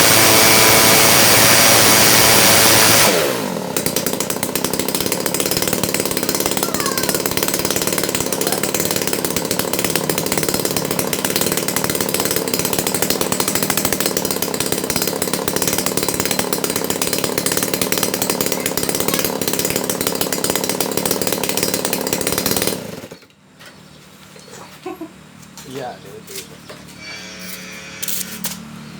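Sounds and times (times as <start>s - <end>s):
small engine running at high speed: 0.0s - 23.3s.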